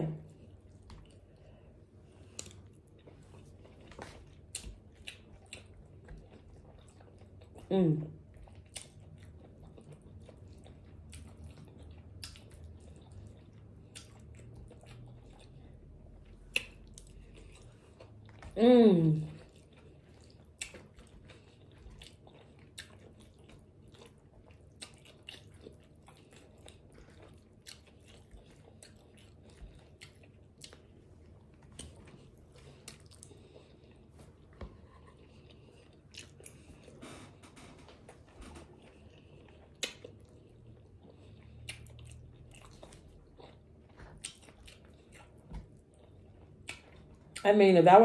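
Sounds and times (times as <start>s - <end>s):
person chewing food: 0.2s - 18.6s, 19.2s - 47.4s.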